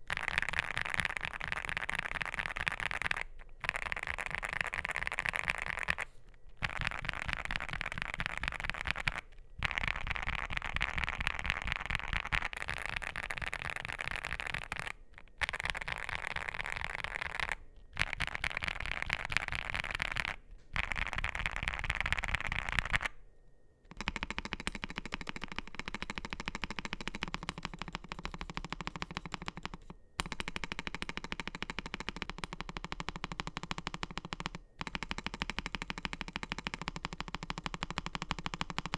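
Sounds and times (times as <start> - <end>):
fast typing on mechanical keyboard: 0.0 - 23.1, 23.9 - 38.9.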